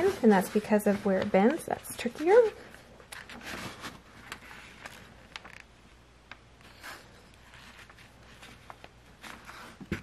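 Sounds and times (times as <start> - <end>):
fabric rustling and rubbing: 0.0 - 5.6, 6.6 - 10.0.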